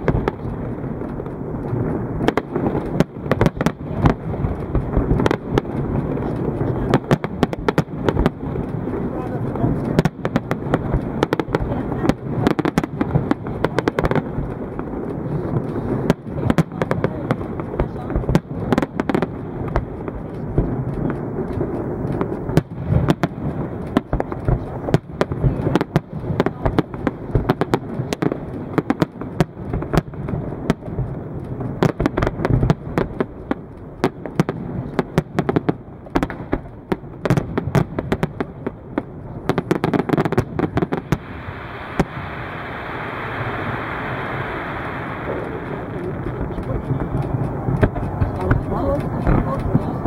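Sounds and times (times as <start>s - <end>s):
fireworks bursting and crackling: 0.0s - 50.0s
low rumble: 0.0s - 50.0s
sharp fireworks bangs: 0.0s - 50.0s.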